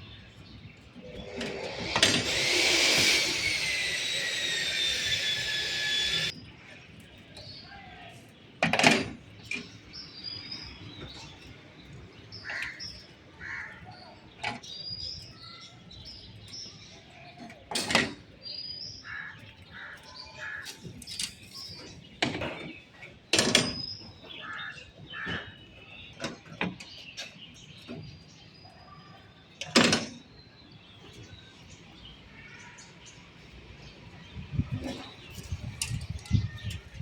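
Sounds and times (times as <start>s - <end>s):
birds chirping: 0.0s - 8.6s, 9.3s - 37.0s.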